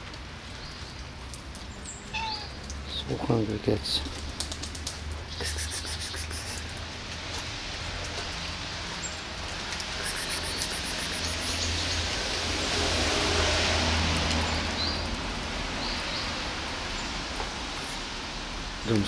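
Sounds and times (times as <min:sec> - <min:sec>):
rain on wet pavement: 0:00.0 - 0:19.0.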